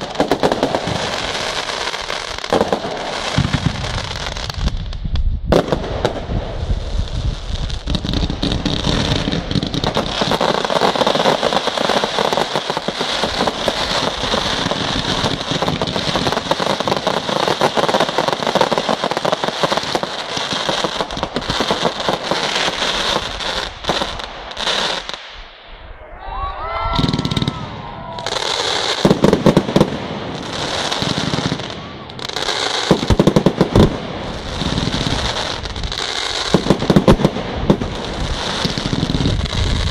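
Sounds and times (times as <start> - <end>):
loud firework bangs: 0.0 - 4.8, 5.5 - 25.5, 26.9 - 39.9
fireworks crackling and popping: 0.0 - 25.8, 26.9 - 39.9.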